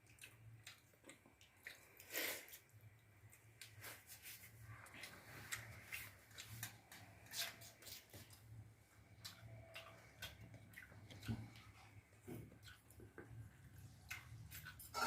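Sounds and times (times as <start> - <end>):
chewing with soft crunches: 0.0 - 15.0.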